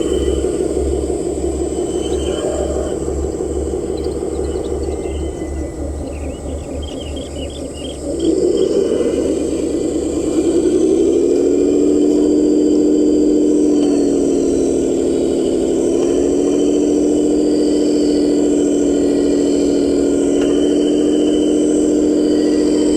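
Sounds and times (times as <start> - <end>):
heavy vehicle engine running: 0.0 - 22.9.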